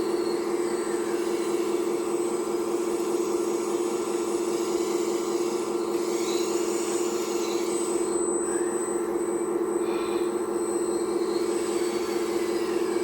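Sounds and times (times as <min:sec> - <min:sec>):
hydraulic pump electric whine: 0:00.0 - 0:13.0.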